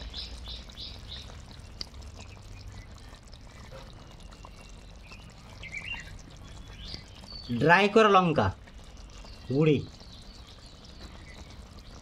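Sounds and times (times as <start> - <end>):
bird chirping faintly: 0.0 - 12.0
curry sizzling in a pan: 0.0 - 12.0.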